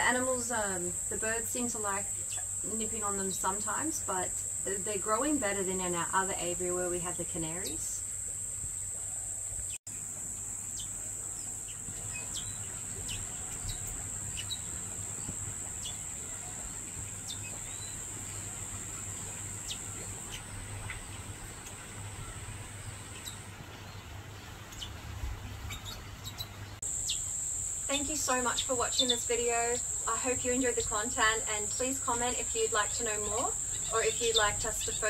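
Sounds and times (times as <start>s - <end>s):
high-pitched insect buzz: 0.0s - 23.4s, 26.8s - 35.0s
small birds chirping: 0.0s - 35.0s.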